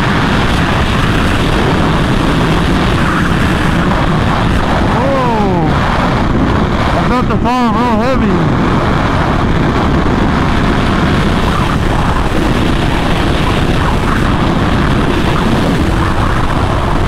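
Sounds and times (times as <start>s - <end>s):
motorcycle engine running: 0.0s - 17.0s
wind rush over microphone: 0.0s - 17.0s.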